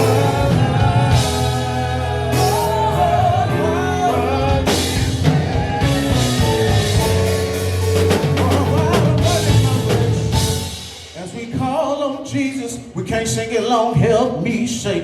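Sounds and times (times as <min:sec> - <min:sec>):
person singing wordless notes: 0:00.0 - 0:12.9
band with bass and drums: 0:00.0 - 0:13.2.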